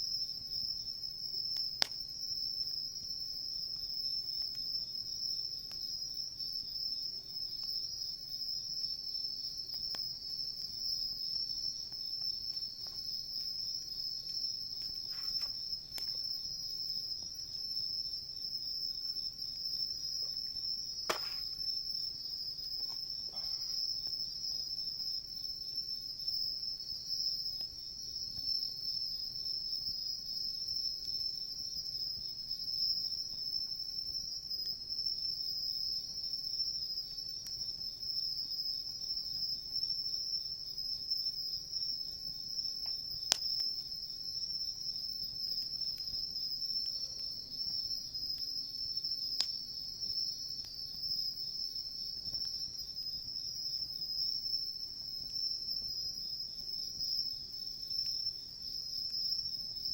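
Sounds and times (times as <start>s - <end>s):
crickets chirping: 0.0s - 59.9s
campfire crackling: 0.2s - 59.9s.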